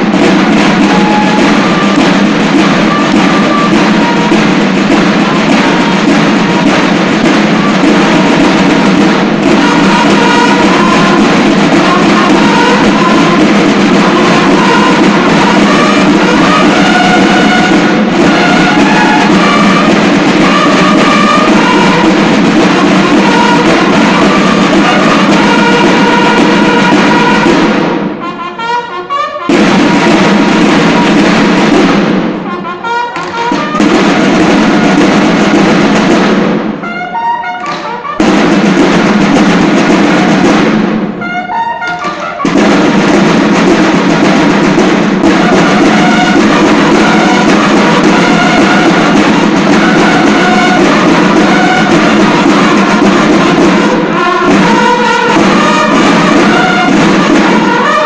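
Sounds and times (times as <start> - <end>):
field drums and bugles march: 0.0 - 58.0.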